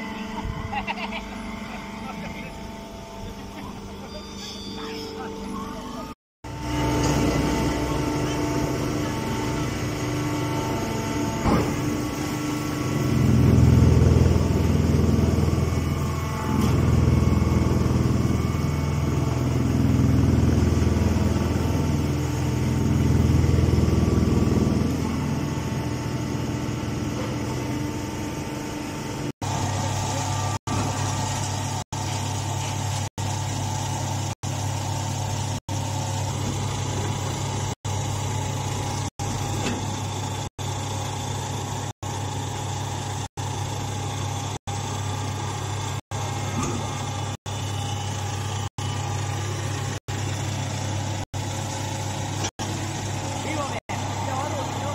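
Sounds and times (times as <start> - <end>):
baler machine hum: 0.0 - 54.9.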